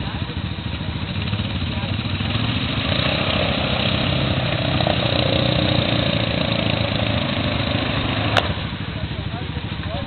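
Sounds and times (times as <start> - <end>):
quad bike engine running: 0.0 - 10.0.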